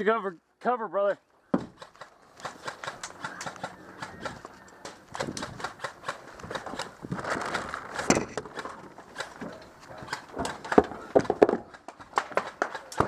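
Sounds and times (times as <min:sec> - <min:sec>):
rustling: 0:01.6 - 0:13.0.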